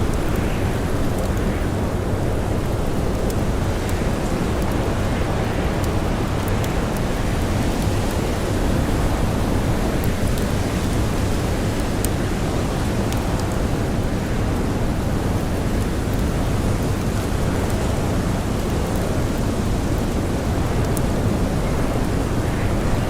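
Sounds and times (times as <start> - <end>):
campfire crackles: 0.0 - 23.0
storm wind: 0.0 - 23.0.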